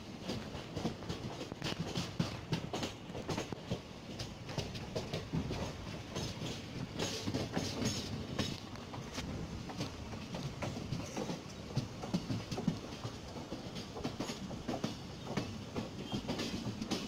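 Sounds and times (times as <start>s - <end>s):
train running rumble: 0.0s - 17.0s
train wheels clattering over rails: 0.0s - 17.0s.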